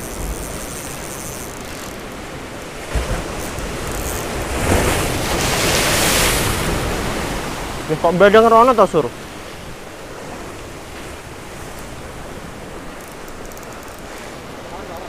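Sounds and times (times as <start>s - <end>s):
sea waves washing ashore: 0.0s - 15.0s.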